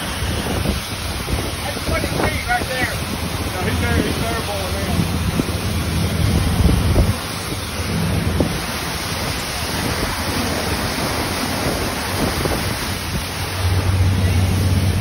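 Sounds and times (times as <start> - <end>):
churning water of boat wake: 0.0 - 15.0
wind buffeting microphone: 0.0 - 15.0.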